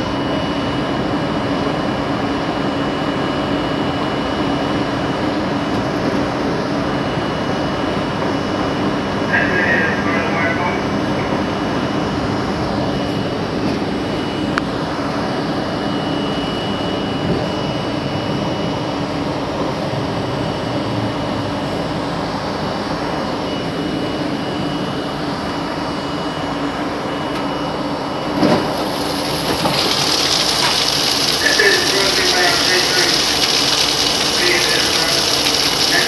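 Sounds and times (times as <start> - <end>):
subway train motor hum and rumble: 0.0 - 30.4.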